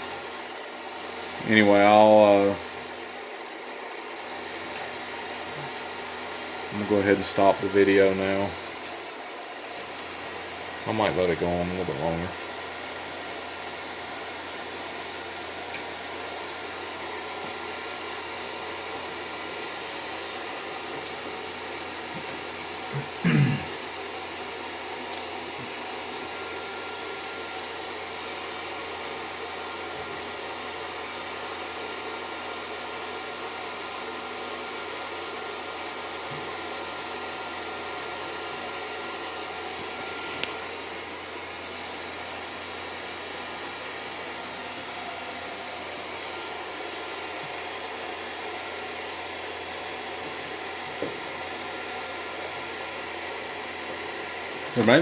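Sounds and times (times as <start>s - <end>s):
equipment hiss and hum: 0.0s - 55.0s.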